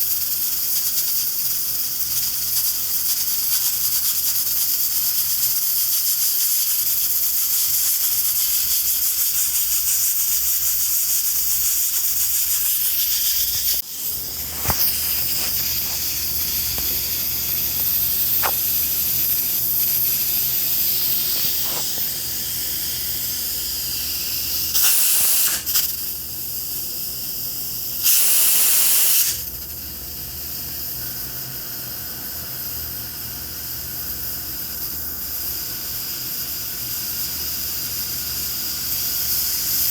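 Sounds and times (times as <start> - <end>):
pressure cooker hissing steam: 0.0 - 39.9.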